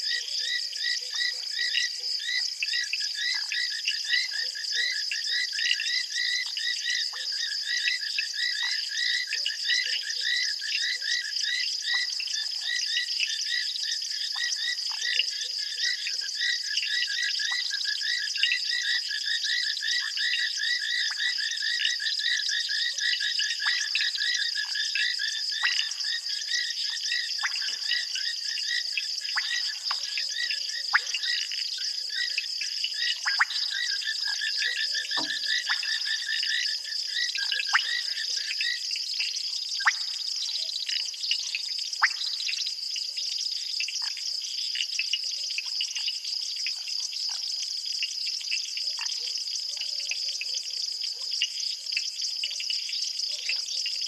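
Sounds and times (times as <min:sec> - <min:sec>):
frogs calling in chorus: 0:00.0 - 0:54.0
short sharp frog calls: 0:00.0 - 0:54.0.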